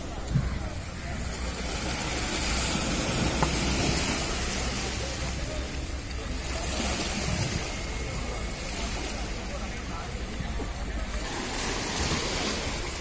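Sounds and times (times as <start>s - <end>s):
waves washing onto rocks: 0.0s - 13.0s.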